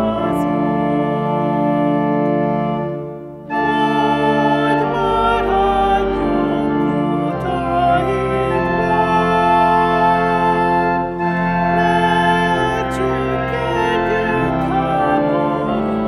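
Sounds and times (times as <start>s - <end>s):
pipe organ playing hymn: 0.0s - 16.0s.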